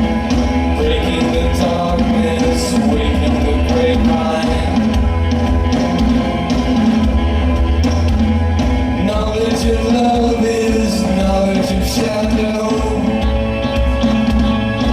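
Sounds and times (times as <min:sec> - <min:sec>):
person singing: 0:00.0 - 0:06.5, 0:08.9 - 0:14.9
bass guitar: 0:00.0 - 0:14.9
drums: 0:00.0 - 0:14.9
electric guitar: 0:00.0 - 0:14.9.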